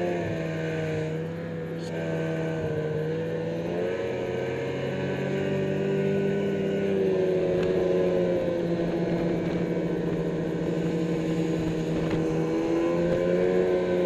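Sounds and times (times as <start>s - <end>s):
snowmobile engine running: 0.0s - 14.0s.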